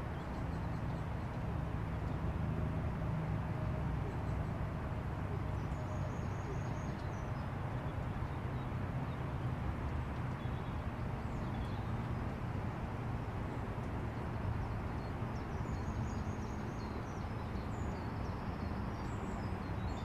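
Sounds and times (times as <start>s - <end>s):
lorry engine hum: 0.0s - 20.0s.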